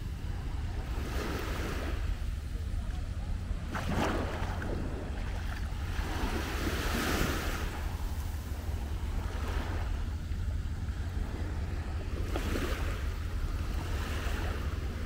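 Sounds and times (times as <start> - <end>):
surf washing onto beach: 0.0 - 15.0
wind rumble on microphone: 0.0 - 15.0.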